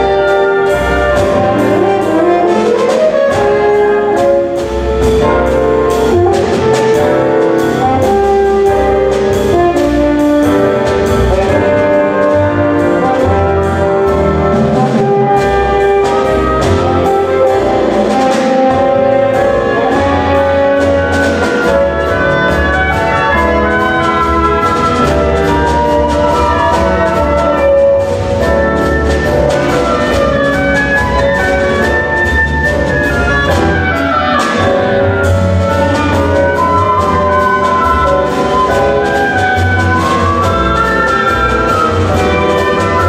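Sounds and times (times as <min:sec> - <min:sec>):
double bass line: 0:00.0 - 0:43.0
piano: 0:00.0 - 0:43.0
steady drumming: 0:00.0 - 0:43.0
woodwind ensemble melodies: 0:00.0 - 0:43.0.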